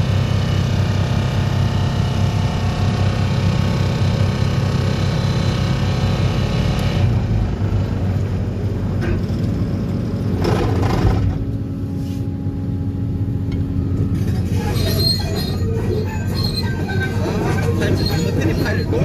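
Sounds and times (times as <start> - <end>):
excavator diesel engine and hydraulics: 0.0 - 19.0.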